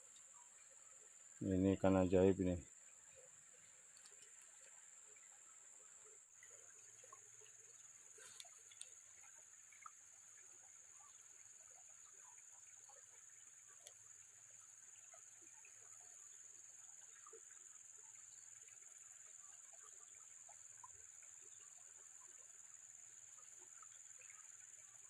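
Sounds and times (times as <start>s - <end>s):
faint ticks: 0.0s - 25.0s
night insects droning: 0.0s - 25.0s.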